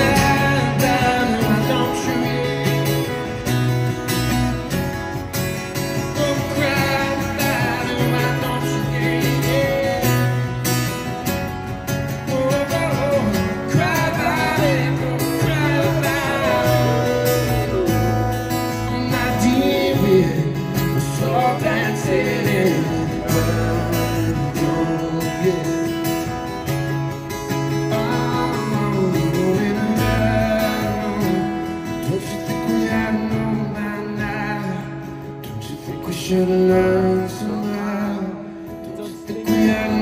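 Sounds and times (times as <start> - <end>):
acoustic guitar playing: 0.0 - 40.0.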